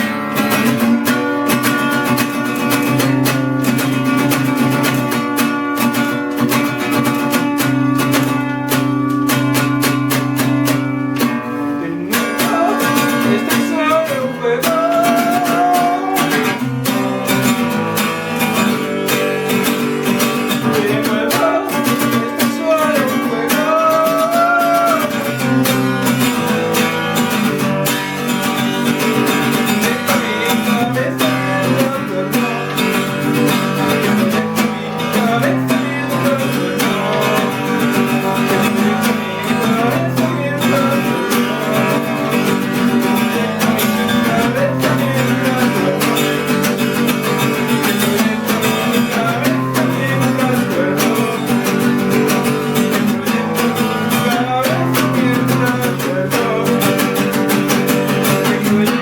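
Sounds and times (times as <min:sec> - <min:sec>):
acoustic guitar music: 0:00.0 - 0:59.0
person singing: 0:00.0 - 0:59.0.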